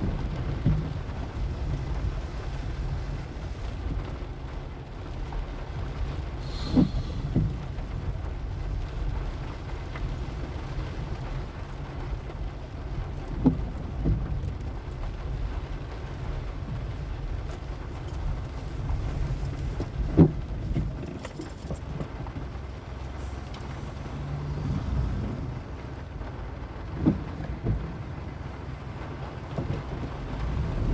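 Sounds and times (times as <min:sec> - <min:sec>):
car engine rumble: 0:00.0 - 0:30.9
road noise: 0:00.0 - 0:30.9.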